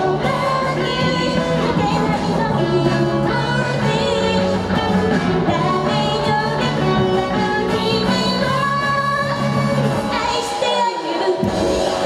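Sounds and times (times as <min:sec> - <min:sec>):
woman singing pop song with band: 0:00.0 - 0:12.0.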